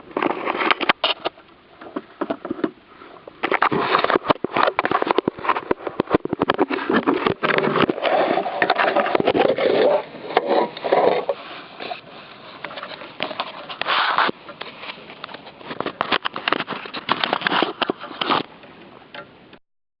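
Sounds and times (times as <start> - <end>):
clicks knocks and scrapes: 0.1 - 2.8, 3.4 - 19.3.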